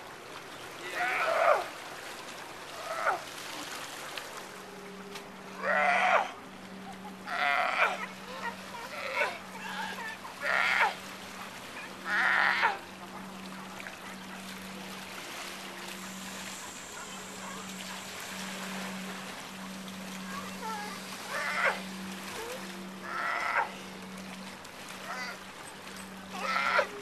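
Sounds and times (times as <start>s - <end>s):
water lapping: 0.0s - 27.0s
sea lions barking: 0.8s - 1.8s, 2.7s - 3.3s, 4.5s - 27.0s.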